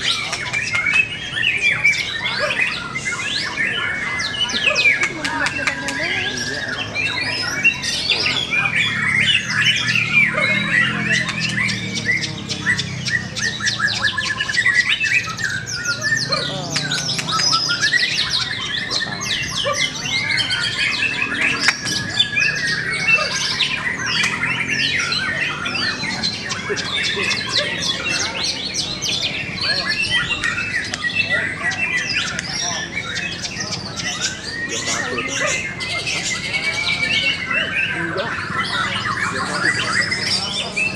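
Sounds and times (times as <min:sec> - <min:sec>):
murmur of voices: 0:00.0 - 0:40.9
other songbirds singing: 0:00.0 - 0:40.9
songbird singing loudly: 0:00.0 - 0:40.9.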